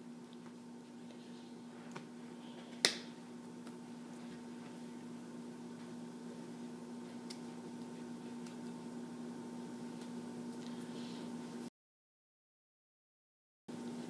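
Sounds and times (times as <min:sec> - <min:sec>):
electrical hum and hiss: 0:00.0 - 0:11.7, 0:13.7 - 0:14.0.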